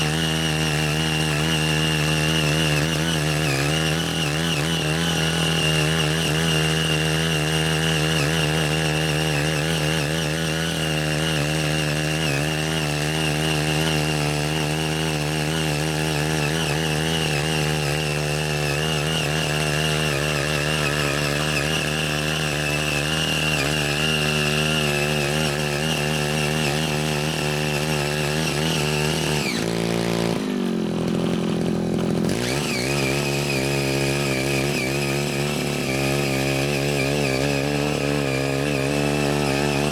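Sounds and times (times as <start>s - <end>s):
tiller blades churning soil: 0.0s - 39.9s
tiller engine running: 0.0s - 39.9s.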